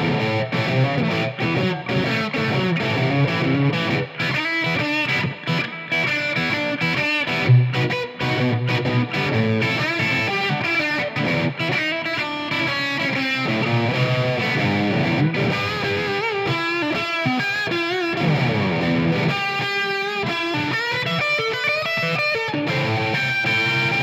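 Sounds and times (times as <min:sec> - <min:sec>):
electric guitar lead playing: 0:00.0 - 0:24.0.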